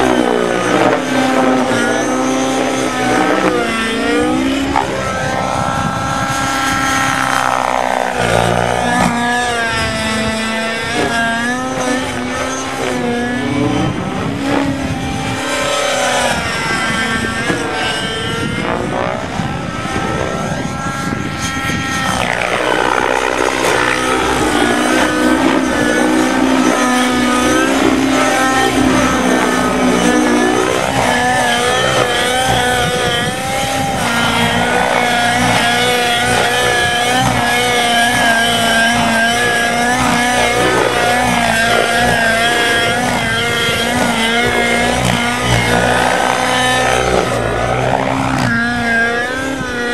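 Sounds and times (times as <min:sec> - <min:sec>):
model helicopter engine and rotor: 0:00.0 - 0:49.9.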